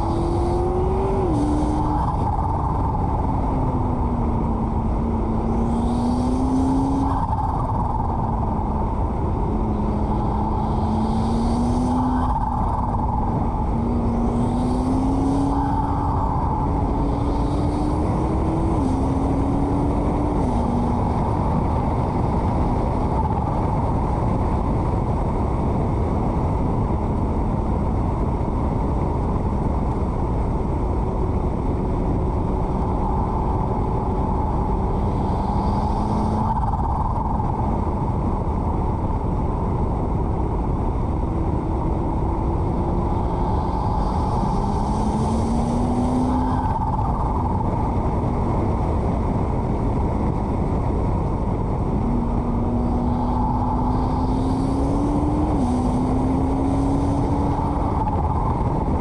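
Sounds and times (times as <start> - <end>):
car engine accelerating: 0.0 - 59.0
wind noise on microphone: 0.0 - 59.0.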